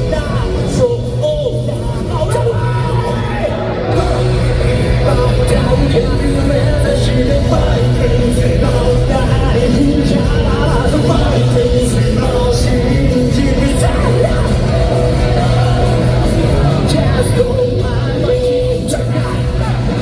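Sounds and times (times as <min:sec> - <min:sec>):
live rock band playing: 0:00.0 - 0:20.0
person singing and shouting: 0:00.0 - 0:20.0.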